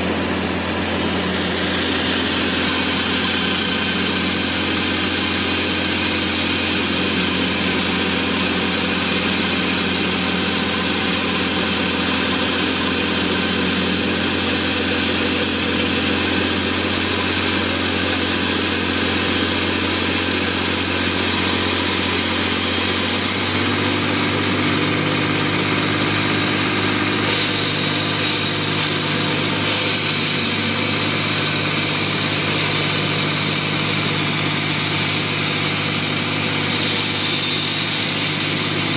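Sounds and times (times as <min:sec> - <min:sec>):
concrete saw diesel engine: 0:00.0 - 0:38.9.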